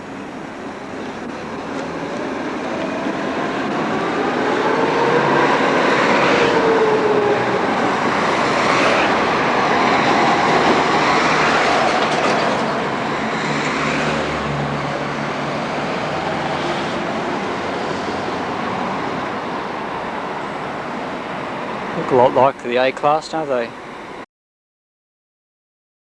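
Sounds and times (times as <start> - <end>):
tram wheel rumble: 0.0 - 24.2
tram whine: 0.0 - 24.2.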